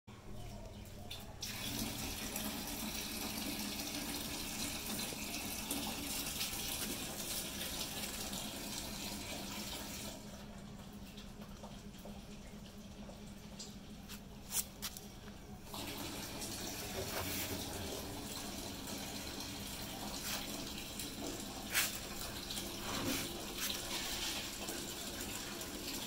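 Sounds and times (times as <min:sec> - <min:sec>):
running water: 0:00.8 - 0:26.0.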